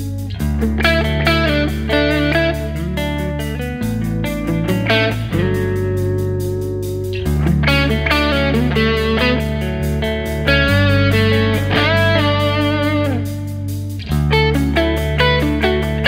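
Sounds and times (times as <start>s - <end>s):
low bass notes: 0.0s - 16.0s
overdriven electric guitar lead: 0.0s - 16.0s
steady ticking beat: 0.0s - 16.0s.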